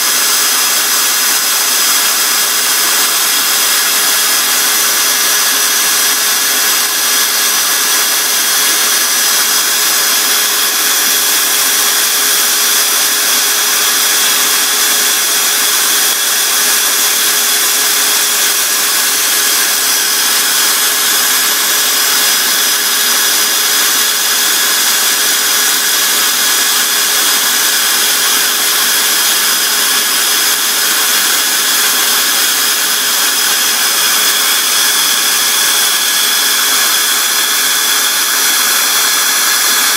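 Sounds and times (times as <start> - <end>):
electric drill motor whine: 0.0 - 39.9.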